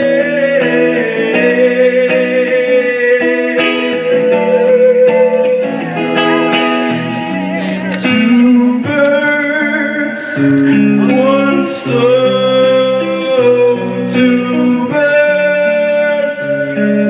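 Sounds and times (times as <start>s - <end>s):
guitar chords strummed: 0.0s - 17.0s.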